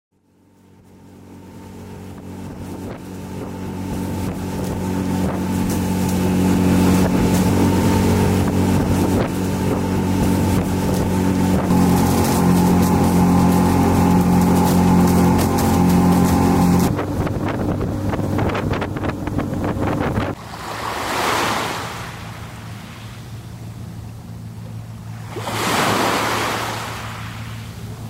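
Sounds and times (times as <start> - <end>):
steady engine drone: 0.2 - 28.0.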